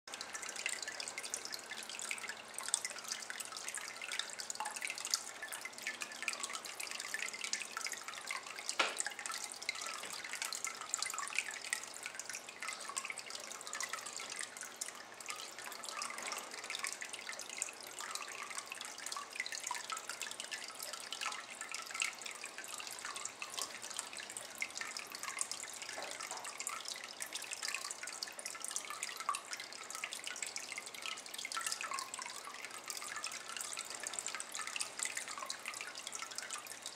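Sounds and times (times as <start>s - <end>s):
water trickling into basin: 0.1s - 36.9s.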